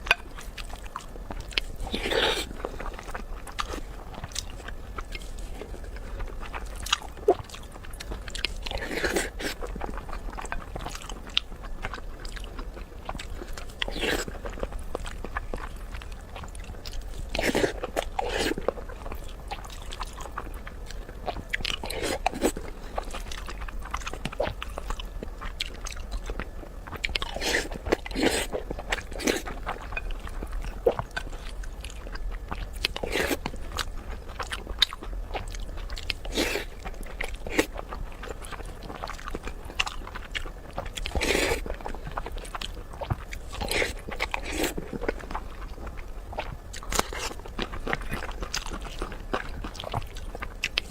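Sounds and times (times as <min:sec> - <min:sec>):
crunchy chewing and smacking: 0:00.0 - 0:50.9.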